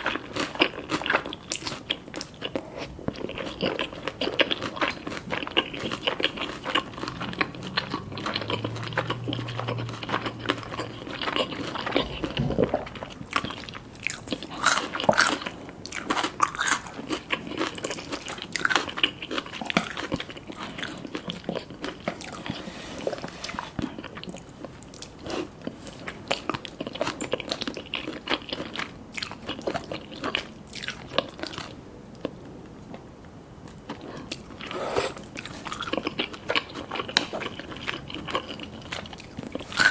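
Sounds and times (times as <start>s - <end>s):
crunchy chewing of fried chicken: 0.0s - 33.0s, 33.7s - 39.9s.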